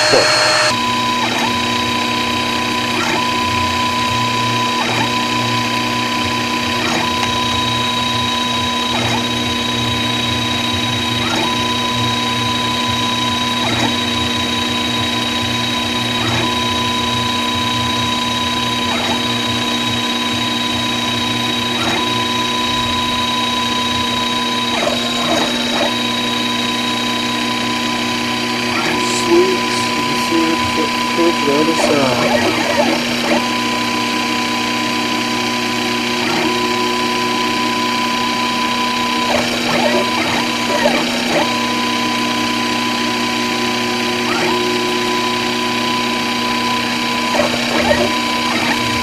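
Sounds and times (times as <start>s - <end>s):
motor tones: 0.0s - 49.0s
router spindle high whine: 0.0s - 49.0s.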